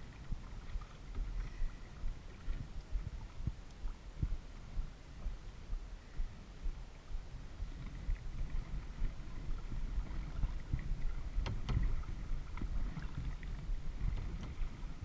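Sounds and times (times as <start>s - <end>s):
paddle splashing water: 0.0s - 4.8s, 7.6s - 15.0s
low rumble: 0.0s - 15.0s.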